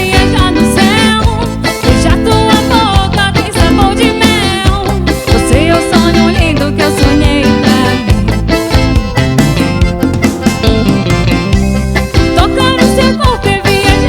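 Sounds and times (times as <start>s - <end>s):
guitar over steady beat: 0.0s - 14.0s
live band playing upbeat song: 0.0s - 14.0s.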